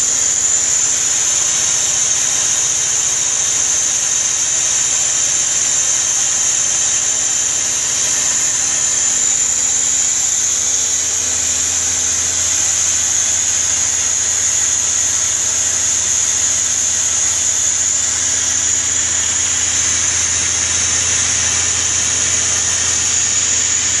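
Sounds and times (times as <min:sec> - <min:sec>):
high-pitched cutting hiss: 0:00.0 - 0:24.0
machine humming: 0:00.0 - 0:24.0.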